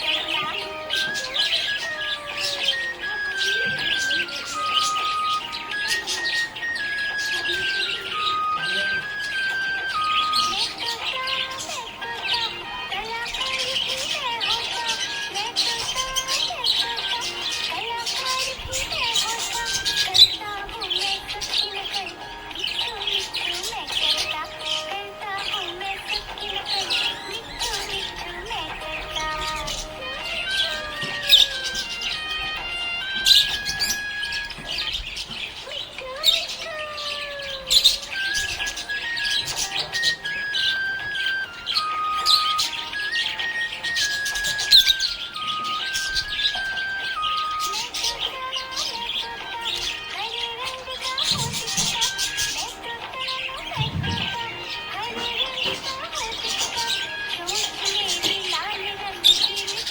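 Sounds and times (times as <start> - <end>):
background music with melody: 0.0 - 59.9
budgies chirping and chattering: 0.0 - 59.9.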